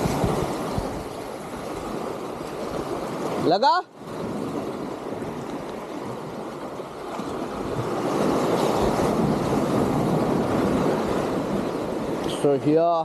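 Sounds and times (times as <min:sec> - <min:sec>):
sea surf washing on concrete: 0:00.0 - 0:13.0.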